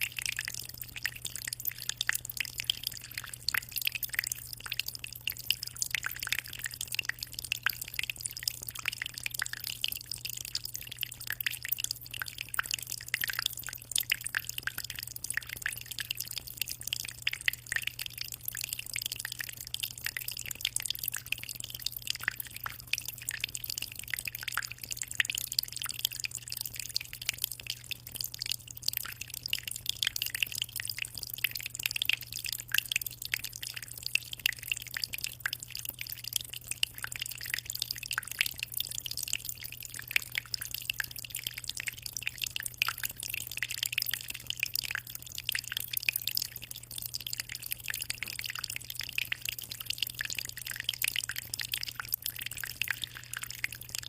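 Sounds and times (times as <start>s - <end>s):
aquarium water trickling: 0.0s - 54.0s
low steady hum: 0.0s - 54.0s.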